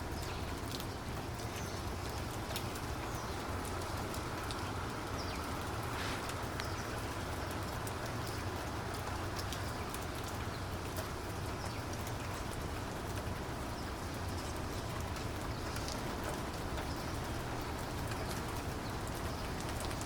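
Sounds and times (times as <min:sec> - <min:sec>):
rain falling: 0:00.0 - 0:20.0
raindrops ticking: 0:00.0 - 0:20.0.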